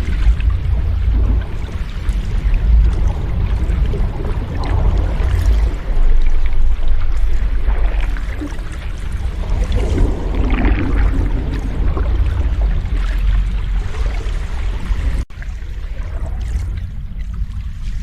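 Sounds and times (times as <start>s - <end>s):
sea waves washing ashore: 0.0s - 18.0s.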